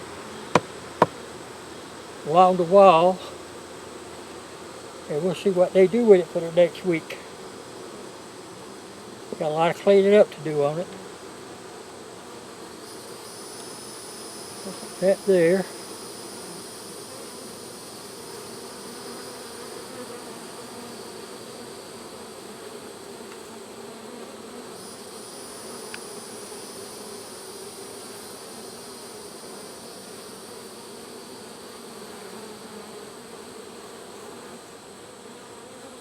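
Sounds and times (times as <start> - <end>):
honeybees humming: 0.0 - 36.0.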